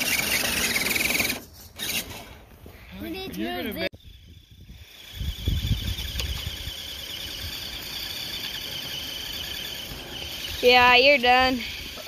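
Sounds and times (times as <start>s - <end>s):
electric motor whining: 0.0s - 2.1s, 4.0s - 12.0s
wheels spinning in snow: 0.0s - 2.4s, 3.0s - 12.0s.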